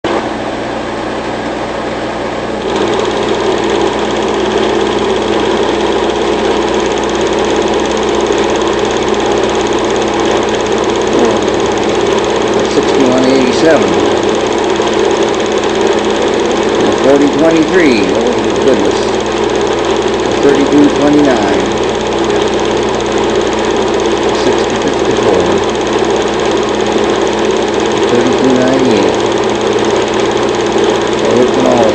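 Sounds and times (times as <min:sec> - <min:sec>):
film projector whirring and clattering: 0:00.0 - 0:31.9.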